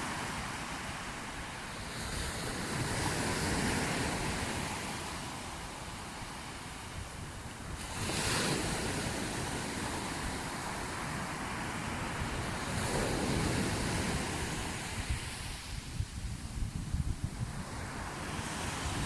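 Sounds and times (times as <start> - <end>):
sea waves washing in: 0.0 - 19.0
wind rumbling on microphone: 0.0 - 19.0.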